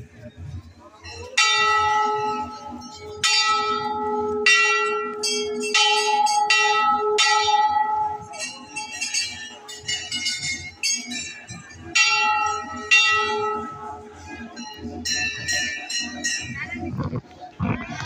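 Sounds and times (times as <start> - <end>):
temple bells ringing: 0.8 - 16.8.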